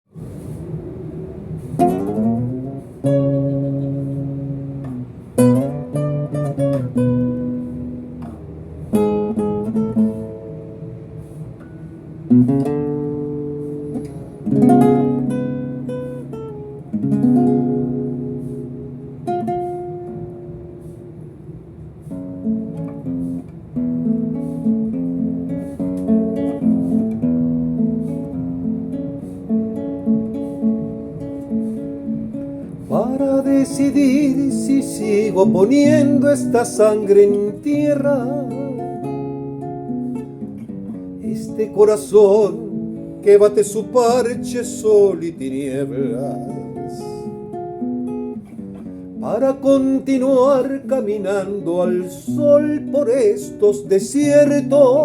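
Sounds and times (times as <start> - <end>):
acoustic guitar strumming: 0.1 - 55.0.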